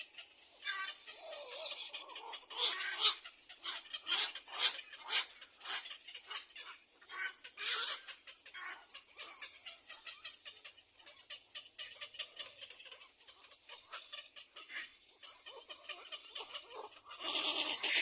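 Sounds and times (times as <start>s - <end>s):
nestling birds begging calls: 0.0s - 18.0s.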